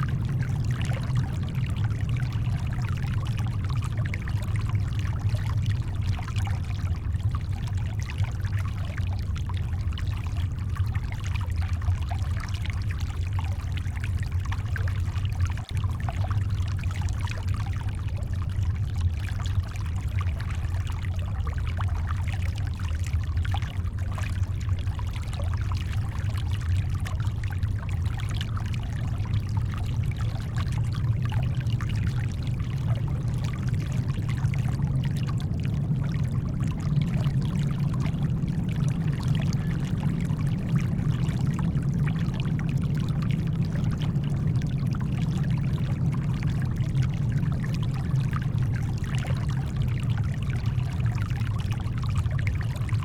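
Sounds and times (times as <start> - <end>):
brown noise rumble: 0.0 - 53.0
shoreline water fizzing: 0.0 - 53.0.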